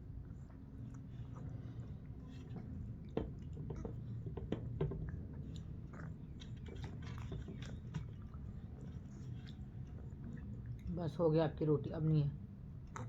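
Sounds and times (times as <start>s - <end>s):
person chewing food: 0.2s - 10.9s.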